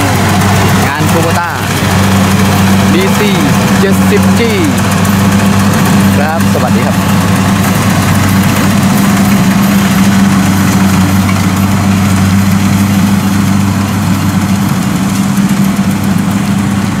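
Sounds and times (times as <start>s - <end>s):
combine harvester engine humming: 0.0s - 17.0s.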